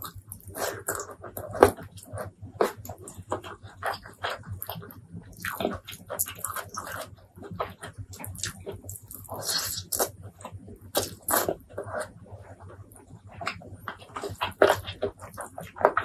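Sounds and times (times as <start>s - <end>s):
wet chewing and lip smacking: 0.0s - 12.2s, 13.0s - 16.0s.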